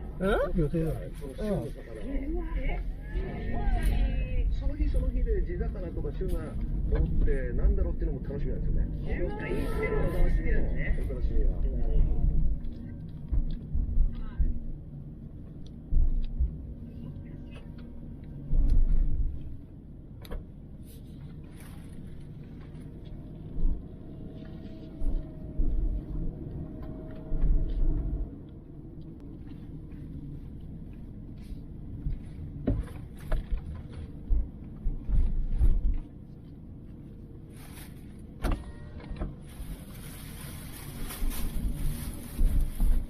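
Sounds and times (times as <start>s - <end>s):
car road rumble: 0.0s - 43.0s.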